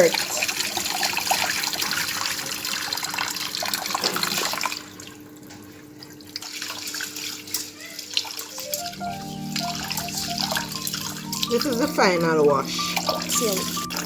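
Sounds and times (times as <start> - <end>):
tap running water: 0.0 - 14.0.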